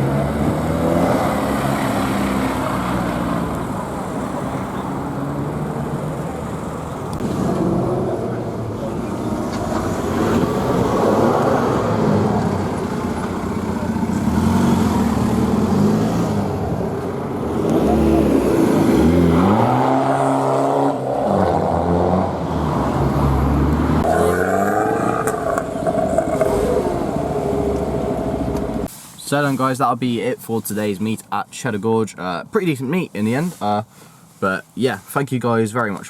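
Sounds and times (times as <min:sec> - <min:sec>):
car engines revving: 0:00.0 - 0:28.9.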